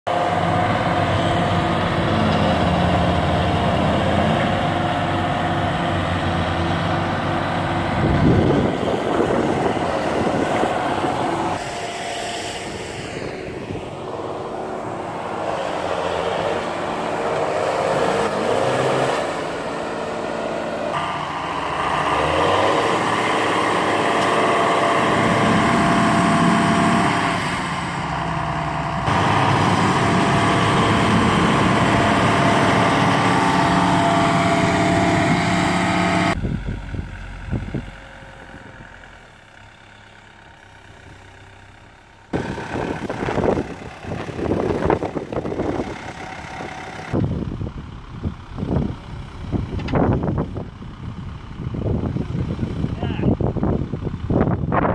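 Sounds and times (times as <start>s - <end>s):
tractor diesel engines under load: 0.1s - 54.9s.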